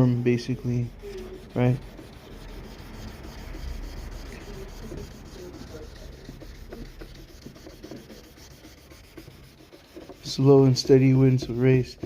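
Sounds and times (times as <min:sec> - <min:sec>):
sandpaper rubbing on plastic: 0:00.0 - 0:12.0.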